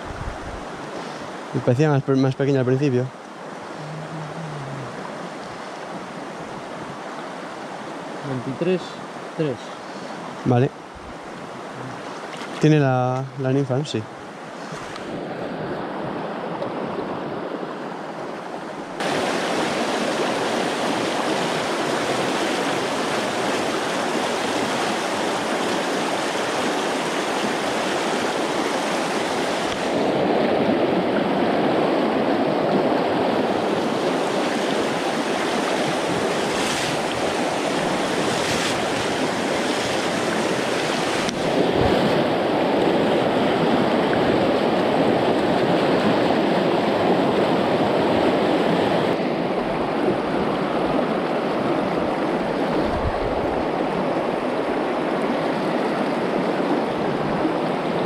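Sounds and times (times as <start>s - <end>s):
river water rushing over stones: 0.0s - 58.0s.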